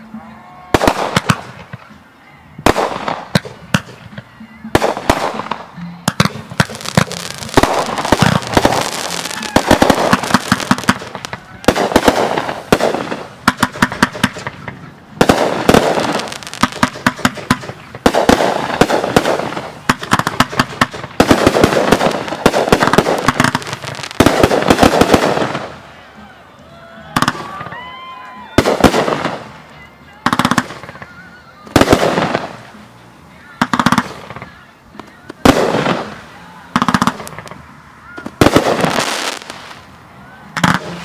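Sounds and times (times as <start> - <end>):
fireworks cracking and banging: 0.7 - 2.0, 2.6 - 26.1, 27.1 - 41.0.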